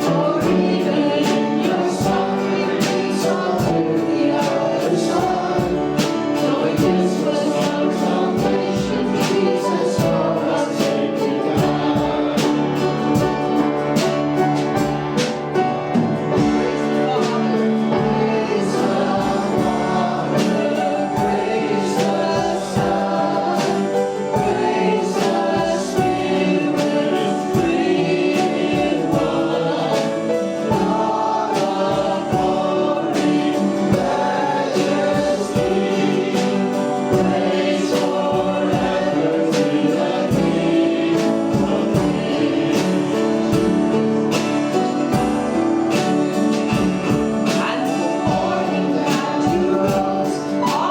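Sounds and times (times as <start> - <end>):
band accompanying: 0.0 - 50.9
group of voices singing: 0.0 - 50.9.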